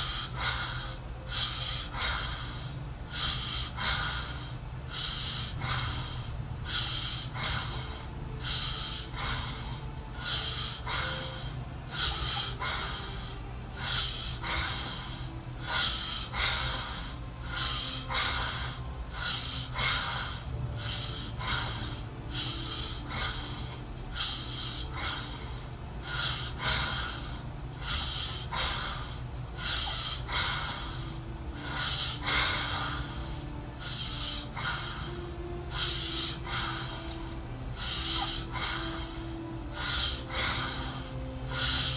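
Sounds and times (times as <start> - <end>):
man snoring: 0.0 - 41.9
steady low hum: 0.0 - 41.9.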